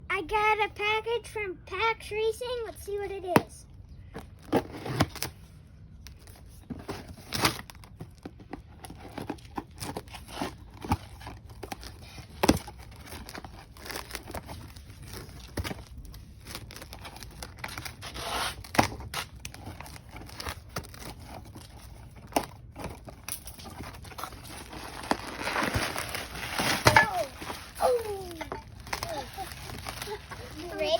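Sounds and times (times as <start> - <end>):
packaging tearing and crinkling: 4.4 - 30.9.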